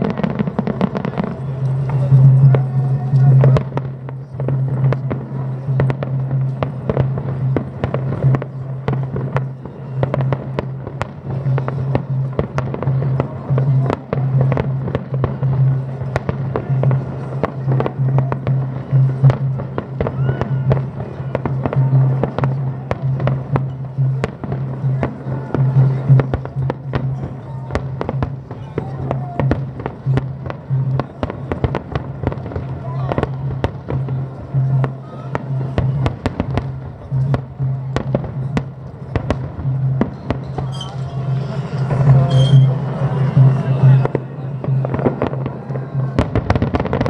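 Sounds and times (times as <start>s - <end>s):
festival music: 0.0s - 47.0s
fireworks cracks and bangs: 0.0s - 47.0s.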